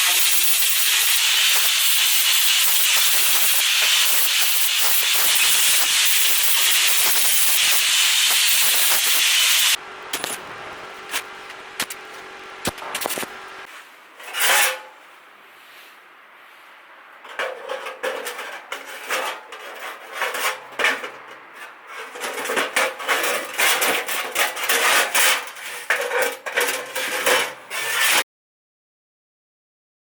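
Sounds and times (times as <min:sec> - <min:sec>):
steel pieces clanking and scraping: 0:00.0 - 0:13.4, 0:14.2 - 0:15.0, 0:17.2 - 0:28.2.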